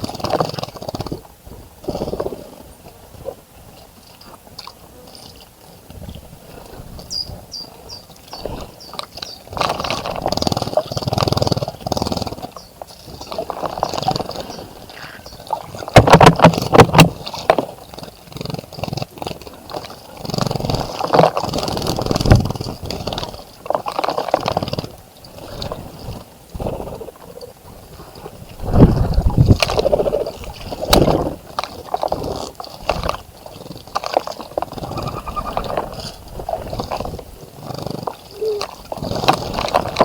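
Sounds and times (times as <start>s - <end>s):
birds splashing in water: 4.4s - 27.2s, 27.8s - 40.0s.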